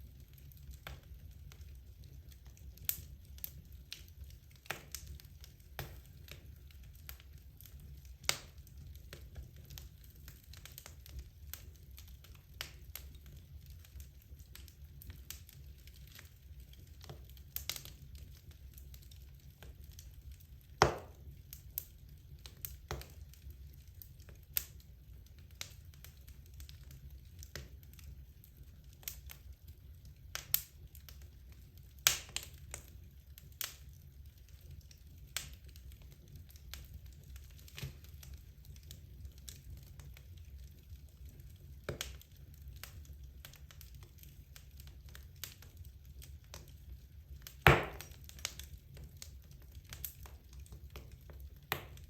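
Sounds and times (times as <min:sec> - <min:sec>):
logs crackling and popping: 0:00.0 - 0:52.0
low rumble of fire: 0:00.0 - 0:52.0.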